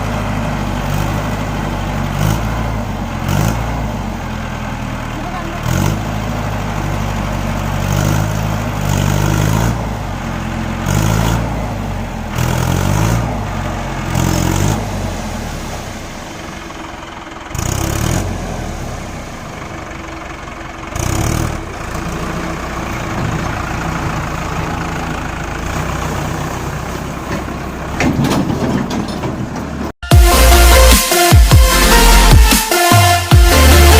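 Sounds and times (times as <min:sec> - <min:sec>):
tractor diesel engine revving: 0:00.0 - 0:33.9.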